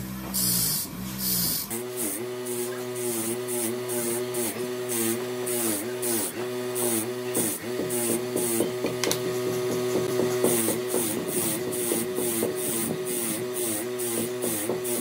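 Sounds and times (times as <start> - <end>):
wire wheel motor humming: 0.0 - 15.0
scratchy rasp on wire brush: 0.4 - 15.0.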